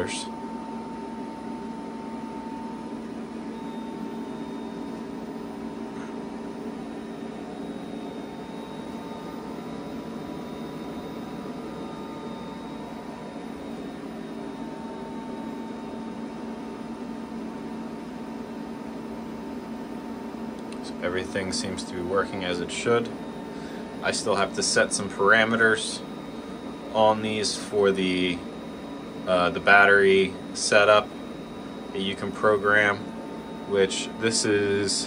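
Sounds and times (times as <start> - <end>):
faint high whine: 0.0 - 18.1, 20.6 - 35.0
cooling fan: 0.0 - 35.0
inverter hum: 0.0 - 35.0.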